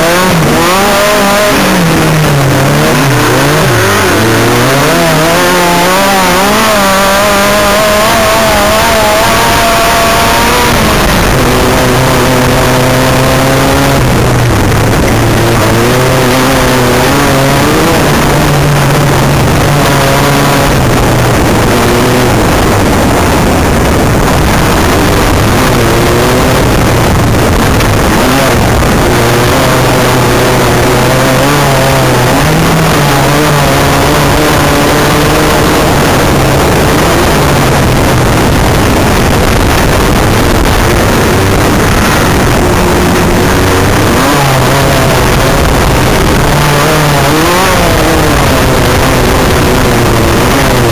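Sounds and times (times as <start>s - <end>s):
loud rushing noise: 0.0s - 50.9s
race buggy engine revving: 0.0s - 50.9s.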